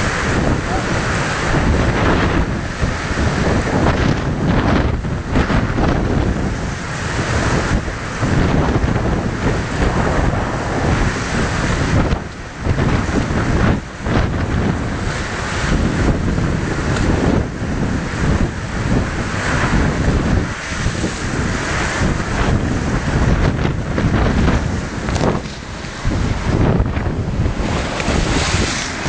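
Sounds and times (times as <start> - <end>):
storm wind buffeting microphone: 0.0 - 29.0
waves breaking against wall: 0.0 - 29.0.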